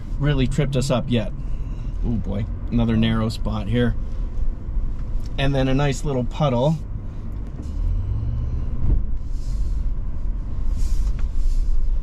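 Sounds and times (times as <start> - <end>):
vehicle cabin rumble: 0.0 - 12.0.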